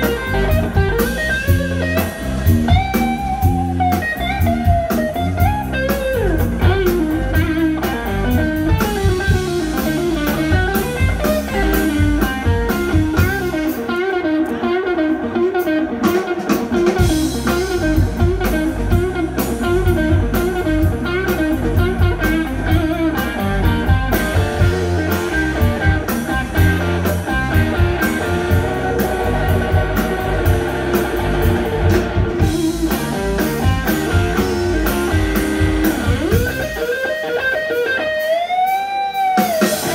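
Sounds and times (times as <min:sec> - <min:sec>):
drum kit: 0:00.0 - 0:39.9
electric guitar lead: 0:00.0 - 0:39.9
second guitar: 0:00.0 - 0:39.9.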